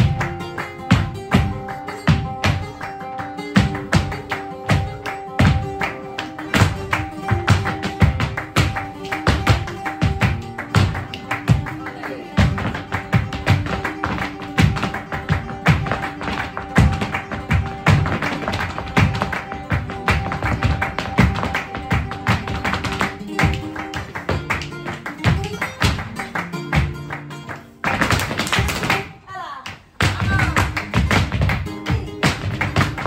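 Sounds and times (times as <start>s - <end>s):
flamenco guitar: 0.0s - 33.0s
footwork on wooden stage: 0.0s - 33.0s
hand clapping: 0.0s - 33.0s.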